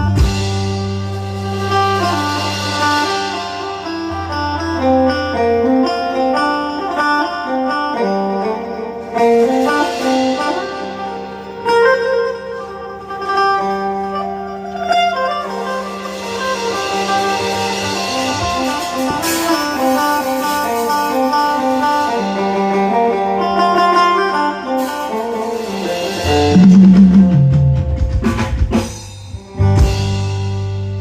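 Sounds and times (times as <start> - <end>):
plucked guitar music: 0.0 - 31.0.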